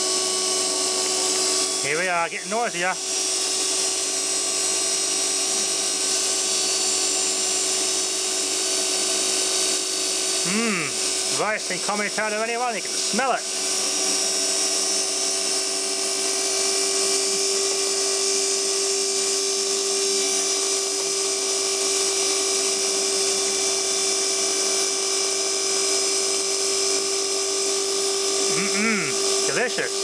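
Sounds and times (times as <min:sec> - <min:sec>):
small electric motor whining: 0:00.0 - 0:30.0.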